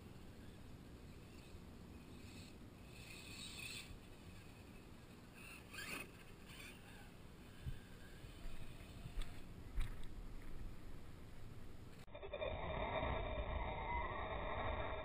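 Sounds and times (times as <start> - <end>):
rc truck tyres spinning in snow: 0.0 - 10.8, 12.0 - 15.0.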